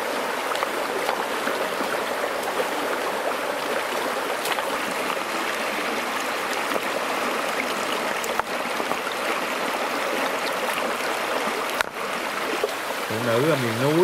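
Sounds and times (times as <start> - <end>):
stream rushing over stones: 0.0 - 14.0.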